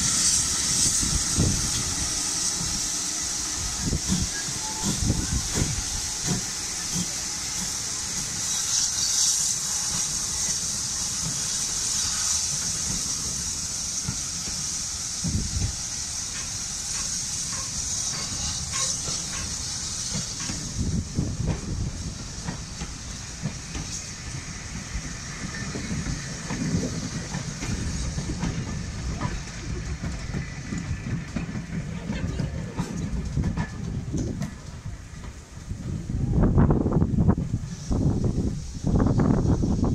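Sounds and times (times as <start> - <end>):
steam locomotive hissing: 0.0 - 39.9
train coaches rumbling: 0.0 - 39.9.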